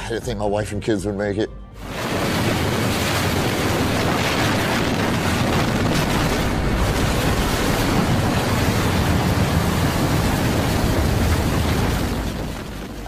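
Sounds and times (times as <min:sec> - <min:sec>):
tornado winds rushing: 0:01.8 - 0:13.0.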